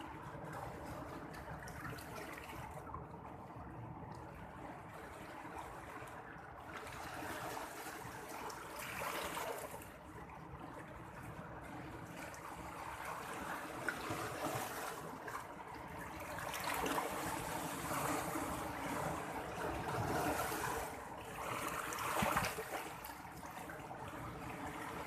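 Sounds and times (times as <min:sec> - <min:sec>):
sea water washing and splashing: 0:00.0 - 0:25.0.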